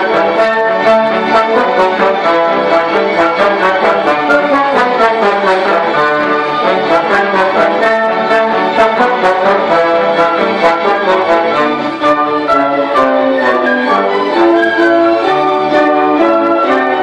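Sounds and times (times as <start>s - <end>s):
horns: 0.0s - 17.0s
strings and bassoons: 0.0s - 17.0s
trombone: 0.0s - 17.0s.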